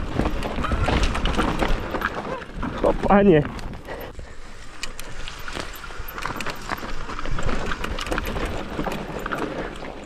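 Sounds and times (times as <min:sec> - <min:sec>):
bike chain and frame rattling: 0:00.0 - 0:10.0
bike tyres on dirt trail: 0:00.0 - 0:10.0.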